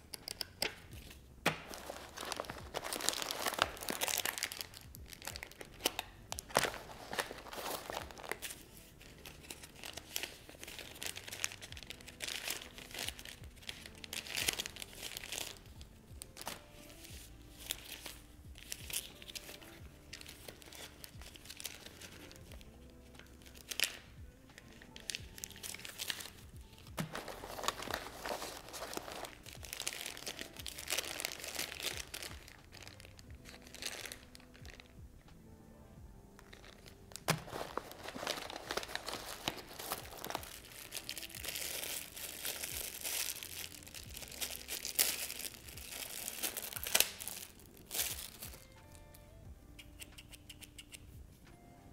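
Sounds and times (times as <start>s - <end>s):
plastic packaging crinkling: 0.0s - 35.0s, 36.4s - 49.0s
soft background music: 0.0s - 51.9s.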